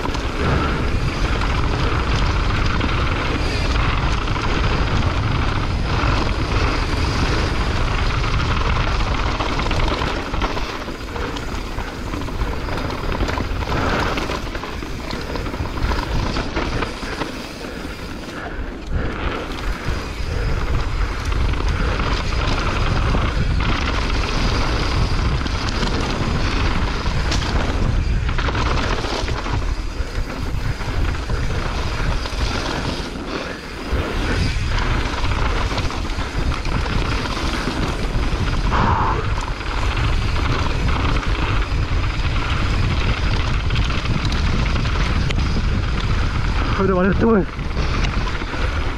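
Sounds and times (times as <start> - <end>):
bike rattling over bumps: 0.0 - 48.9
tyres rolling over dirt and stones: 0.0 - 48.9
wind buffeting microphone: 0.0 - 48.9.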